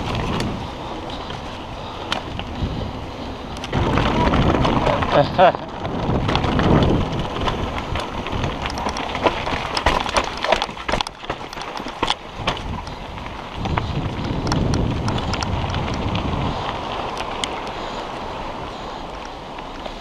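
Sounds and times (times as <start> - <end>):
bike parts rattling: 0.0 - 20.0
bike tyres crunching on gravel: 0.0 - 20.0.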